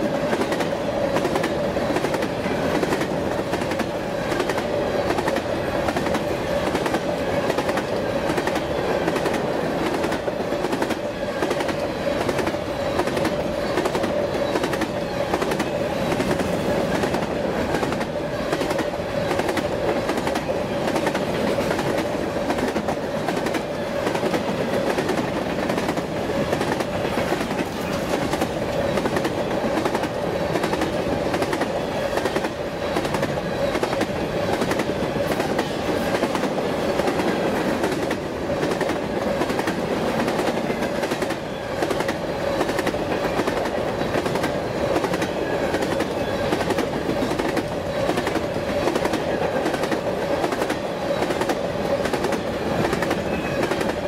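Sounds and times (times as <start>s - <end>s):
steady train tone: 0.0s - 54.0s.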